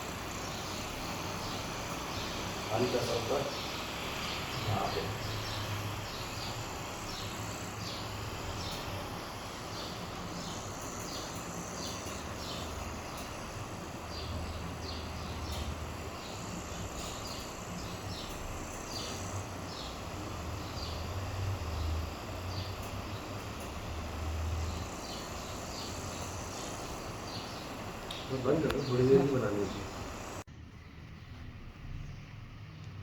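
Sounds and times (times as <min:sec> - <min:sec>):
high insect-like chirps: 0:00.0 - 0:30.5.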